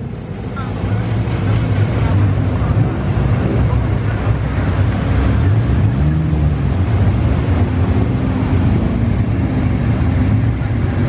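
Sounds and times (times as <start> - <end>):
sports car engines rumbling: 0.0 - 11.0.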